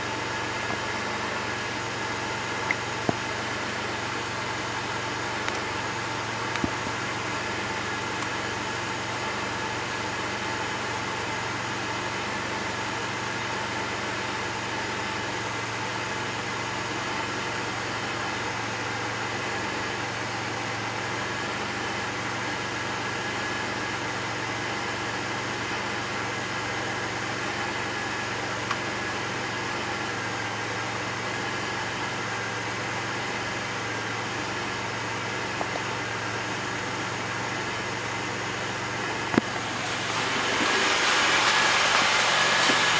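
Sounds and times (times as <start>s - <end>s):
car engine idling roughly: 0.0s - 42.9s.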